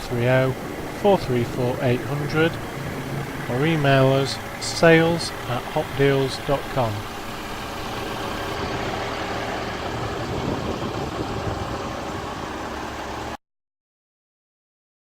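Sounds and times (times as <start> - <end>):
truck diesel engine idling: 0.0 - 13.4.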